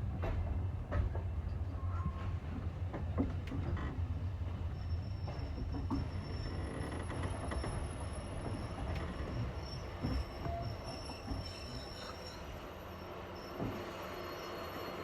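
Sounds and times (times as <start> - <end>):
train rumbling over track: 0.0 - 15.0.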